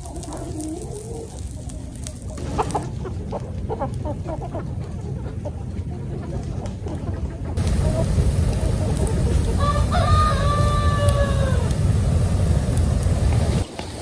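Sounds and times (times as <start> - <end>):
chickens clucking: 0.0 - 13.6
steady low rumble: 1.3 - 13.6.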